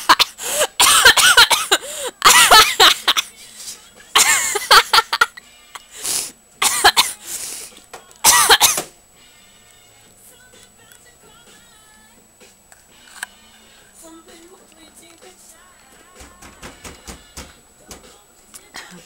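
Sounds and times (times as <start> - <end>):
faint music: 0.0 - 19.0.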